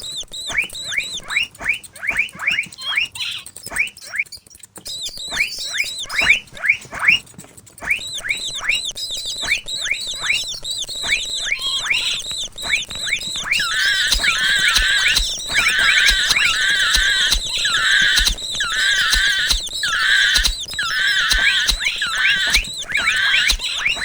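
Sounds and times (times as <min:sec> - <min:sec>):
mouse squeaking: 0:00.0 - 0:24.0.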